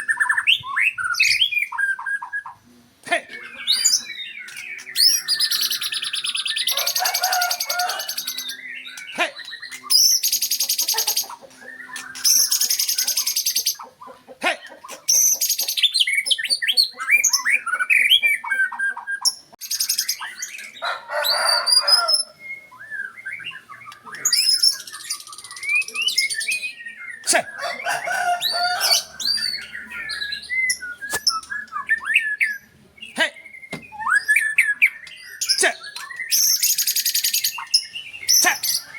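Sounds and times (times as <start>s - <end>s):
bird whistled song: 0.0s - 2.6s, 3.4s - 14.2s, 14.8s - 38.9s.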